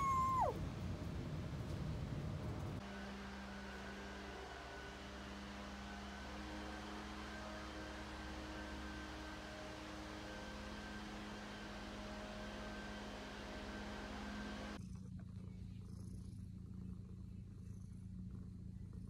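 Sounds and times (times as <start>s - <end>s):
steady low hum with tones: 0.0s - 19.0s.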